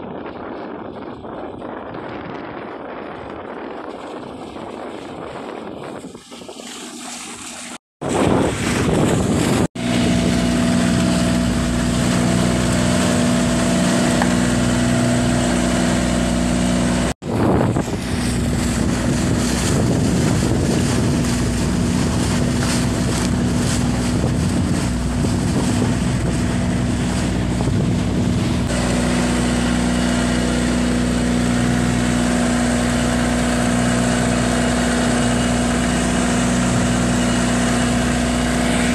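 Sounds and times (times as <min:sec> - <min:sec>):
water rushing past hull: 0:00.0 - 0:38.9
wind on microphone: 0:00.0 - 0:38.9
diesel boat engine running: 0:06.2 - 0:38.9.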